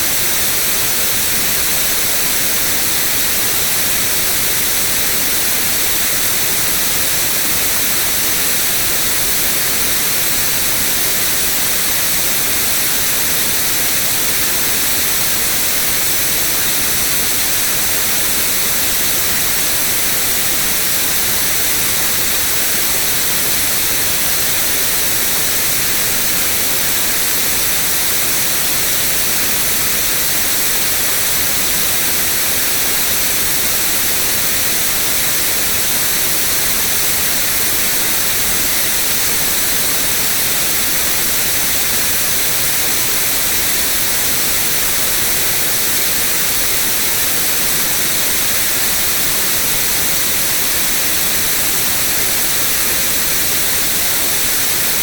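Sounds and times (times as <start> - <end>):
steady white noise: 0.0 - 55.0.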